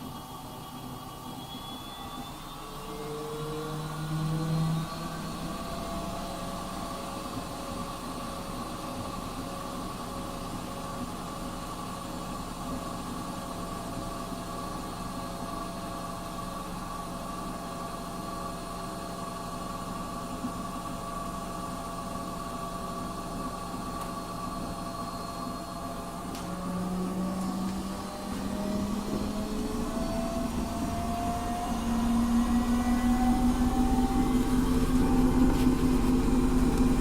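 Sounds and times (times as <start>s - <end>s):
washing machine motor whine: 0.0s - 37.0s.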